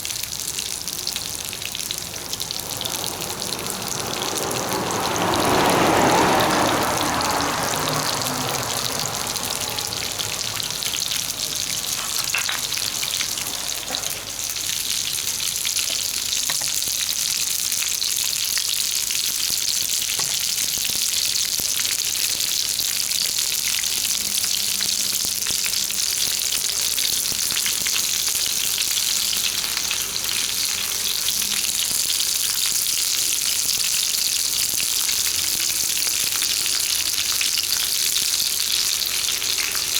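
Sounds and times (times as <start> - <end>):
mushrooms sizzling in oil: 0.0 - 39.9.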